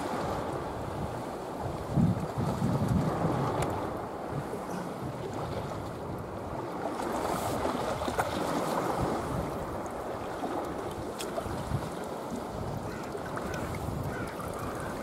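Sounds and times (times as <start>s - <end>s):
sea water rushing: 0.0s - 15.0s
wind on microphone: 0.0s - 15.0s.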